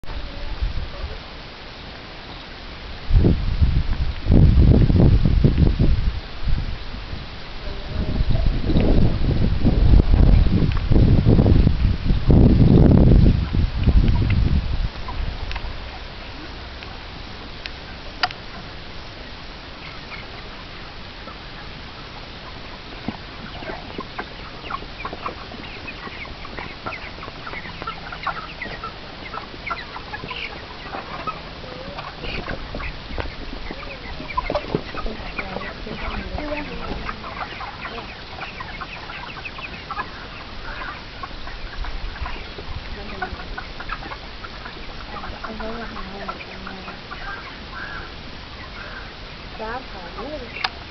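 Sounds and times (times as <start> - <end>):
chickens clucking: 0.0 - 50.9
steady background noise: 0.0 - 50.9.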